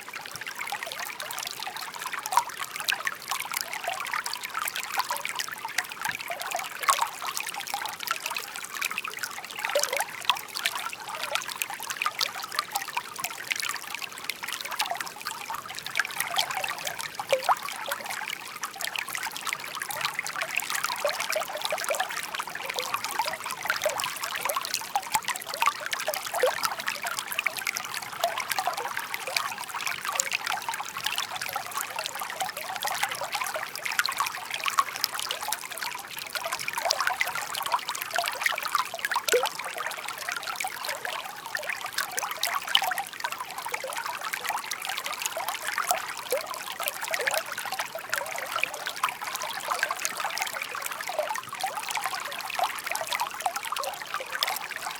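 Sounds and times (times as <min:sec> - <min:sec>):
brook babbling over stones: 0:00.0 - 0:54.9.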